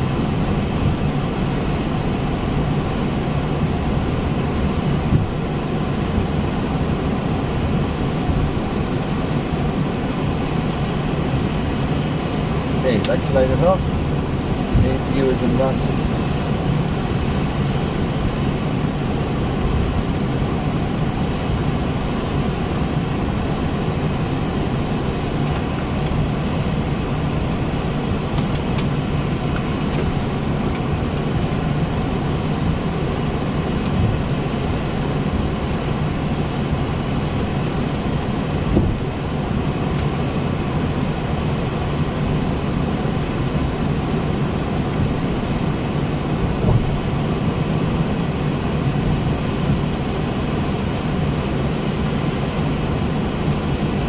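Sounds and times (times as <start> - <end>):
airplane engines idling: 0.0 - 54.0.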